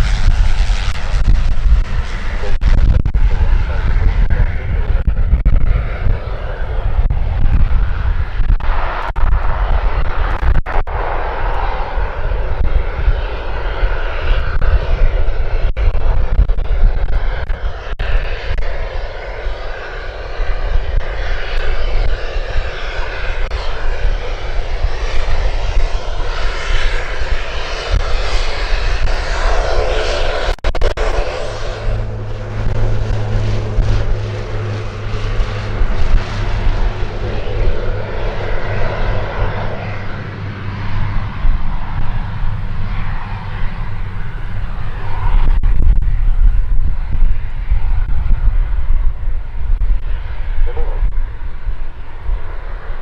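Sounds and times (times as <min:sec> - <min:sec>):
heavy low rumble: 0:00.0 - 0:53.0
turboprop engine and propeller: 0:00.0 - 0:53.0.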